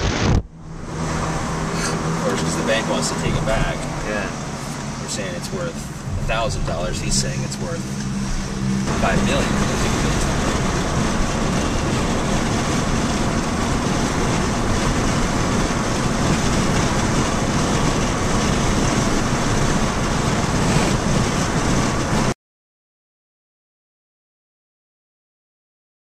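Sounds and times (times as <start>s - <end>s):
car engine running: 0.0s - 22.4s
tyres on asphalt: 0.0s - 22.4s.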